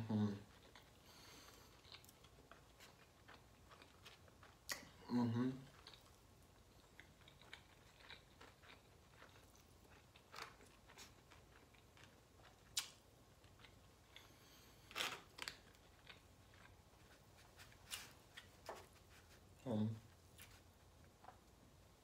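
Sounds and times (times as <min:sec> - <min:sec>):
faint chewing: 0:00.3 - 0:05.0, 0:05.6 - 0:21.6.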